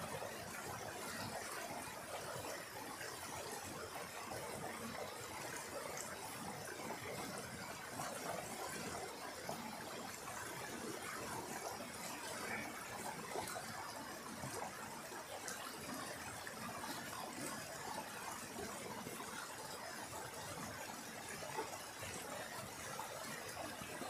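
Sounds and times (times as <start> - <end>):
stream splashing over rocks: 0.0 - 24.0.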